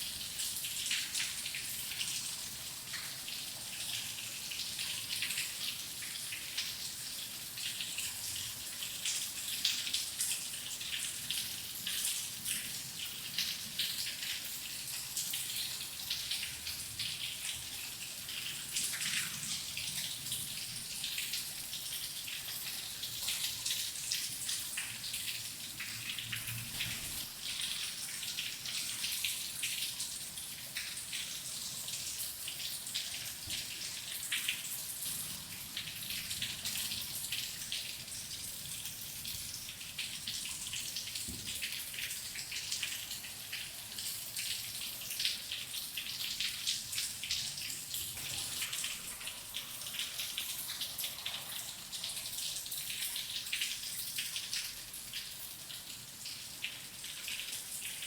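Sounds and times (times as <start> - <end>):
steady rain: 7.4 - 58.0.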